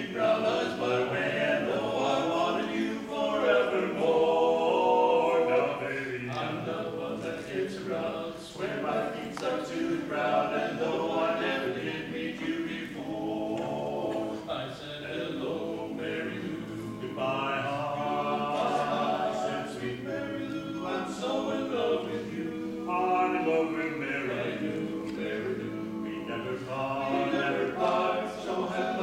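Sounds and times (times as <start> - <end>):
men singing in harmony: 0.0 - 29.0.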